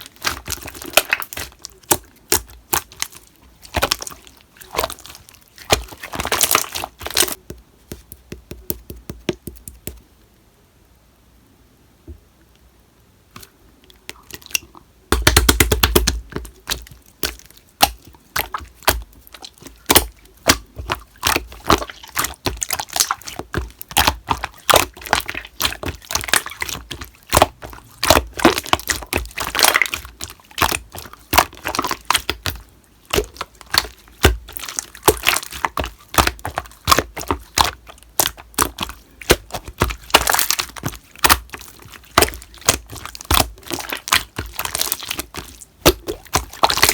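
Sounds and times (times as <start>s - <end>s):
slime crackling and popping: 0.0s - 10.0s, 14.1s - 46.9s.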